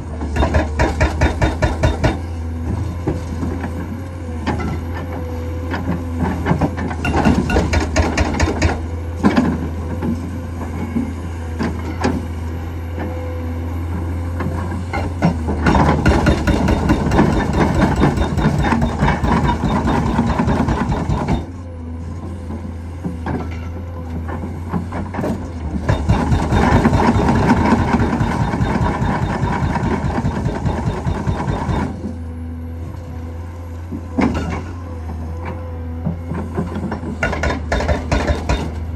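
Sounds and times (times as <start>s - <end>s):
hydraulic hammer pounding ground: 0.0s - 13.2s, 13.8s - 33.0s, 33.8s - 38.9s
excavator diesel engine running: 0.0s - 38.9s.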